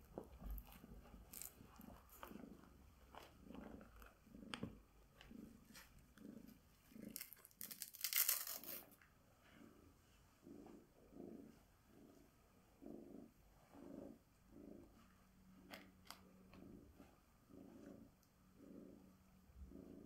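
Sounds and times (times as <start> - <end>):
cat purring: 0.0 - 7.3, 9.2 - 20.0.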